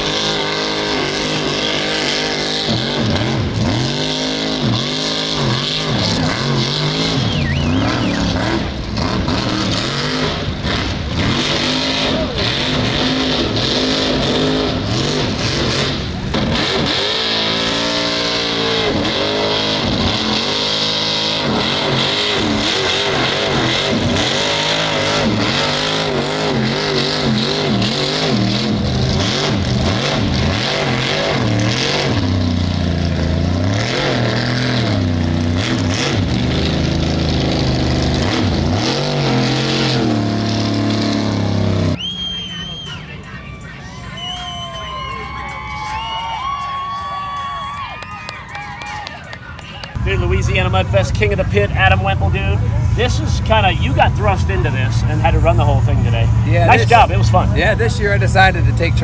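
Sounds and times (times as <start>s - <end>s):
truck engine revving: 0.0s - 43.1s, 49.4s - 59.0s.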